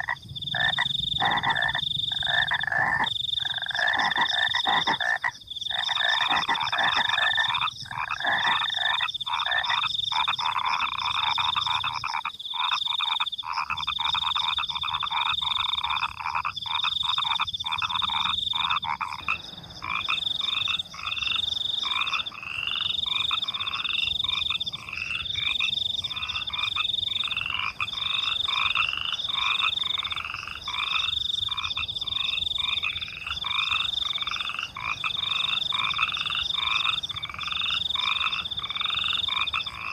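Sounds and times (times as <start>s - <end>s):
crickets chirping: 0.0s - 39.9s
frogs croaking: 0.0s - 39.9s.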